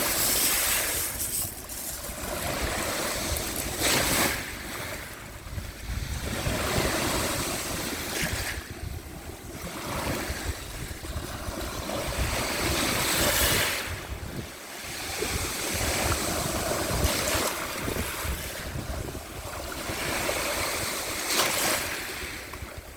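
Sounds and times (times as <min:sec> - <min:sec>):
small waves washing onto shore: 0:00.0 - 0:22.9
wind rumble on microphone: 0:00.0 - 0:22.9.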